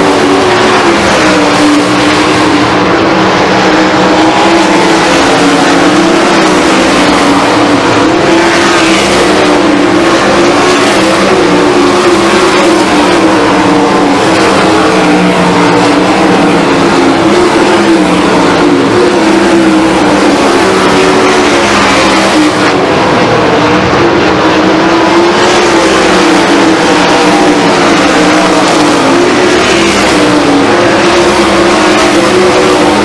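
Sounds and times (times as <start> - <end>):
race car engines racing: 0.0 - 33.0.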